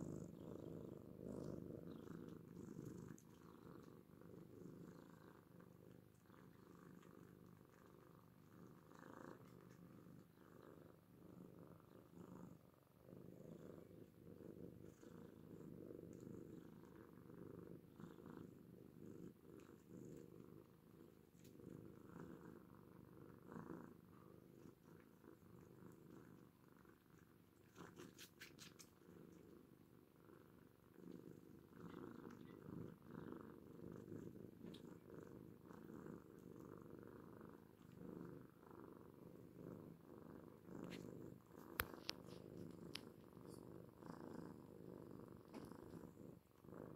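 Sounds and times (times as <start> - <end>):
cats purring: 0.0 - 46.9.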